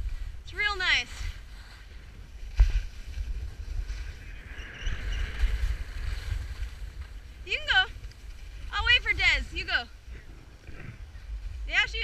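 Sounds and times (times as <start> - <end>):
sliding over snow hiss: 0.0 - 9.9
wind buffeting microphone: 0.0 - 12.0.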